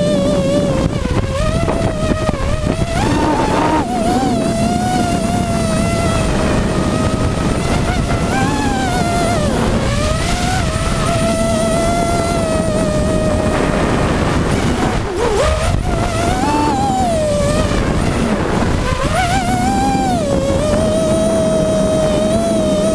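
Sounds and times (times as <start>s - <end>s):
drone motors whining: 0.0s - 22.9s.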